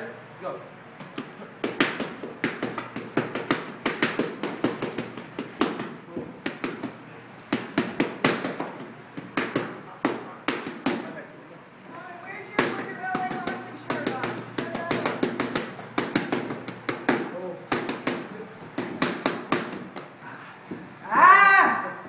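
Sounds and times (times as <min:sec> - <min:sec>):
boxing gloves smacking focus mitts: 0:01.0 - 0:11.2, 0:12.5 - 0:20.9.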